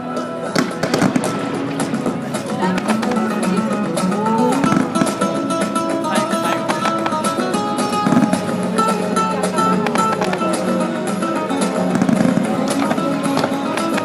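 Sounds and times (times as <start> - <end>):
latin acoustic guitar music: 0.5 - 14.0.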